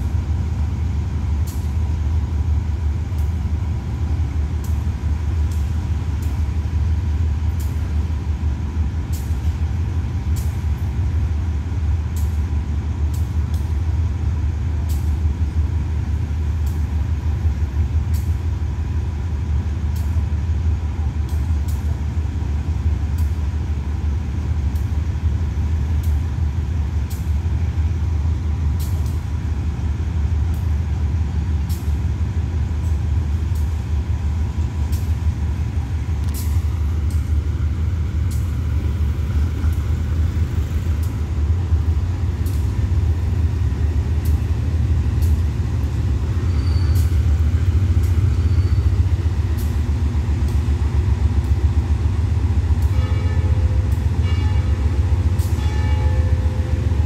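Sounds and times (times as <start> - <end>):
diesel locomotive rumbling: 0.0 - 57.0.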